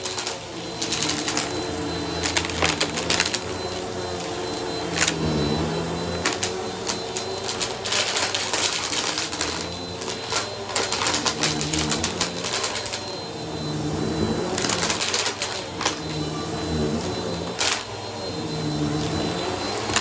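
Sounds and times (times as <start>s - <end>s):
vacuum cleaner motor hum: 0.0s - 20.0s.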